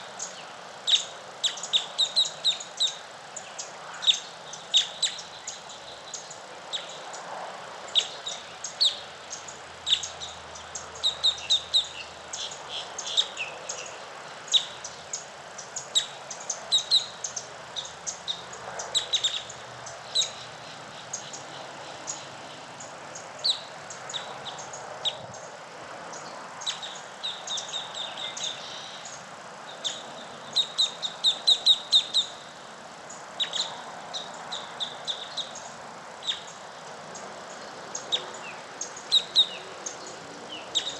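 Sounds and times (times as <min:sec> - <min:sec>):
birds chirping: 0:00.0 - 0:07.2, 0:07.8 - 0:40.9
background hiss: 0:00.0 - 0:40.9.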